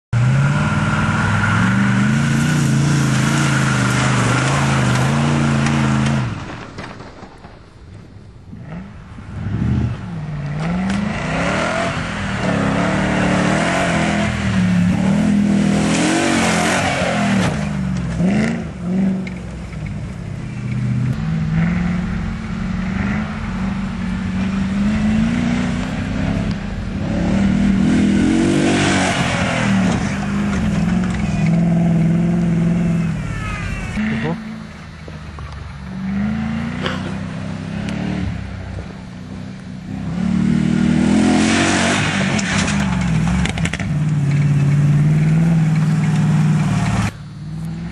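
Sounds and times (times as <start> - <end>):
car engine revving: 0.1 - 6.6, 8.6 - 47.9.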